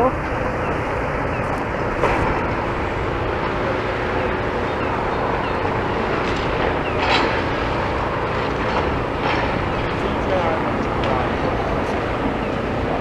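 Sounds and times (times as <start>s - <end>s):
excavator running: 0.0s - 13.0s.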